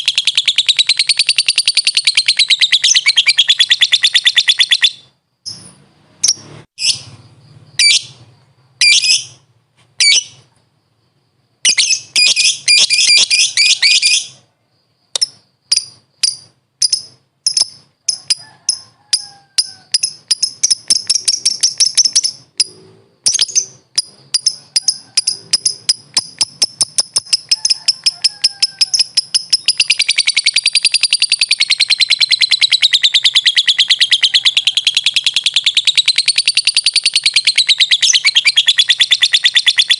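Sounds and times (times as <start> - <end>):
lovebird shrieking and chirping: 0.0 - 7.1, 7.8 - 8.2, 8.8 - 9.4, 11.7 - 14.4, 15.8 - 39.9.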